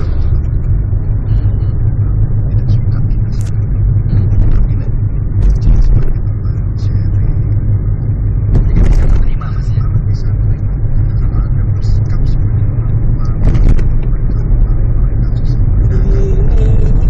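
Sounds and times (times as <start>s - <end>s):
car driving interior rumble: 0.0s - 17.0s.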